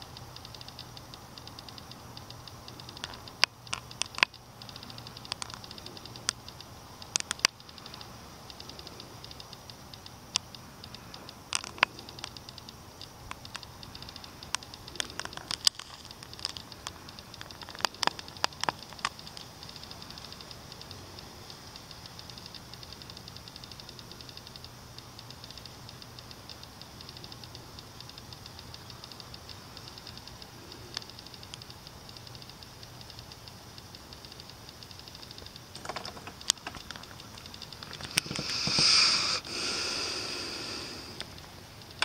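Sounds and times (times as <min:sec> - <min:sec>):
faint low hum: 0:00.0 - 0:42.0
steady hiss: 0:00.0 - 0:42.0.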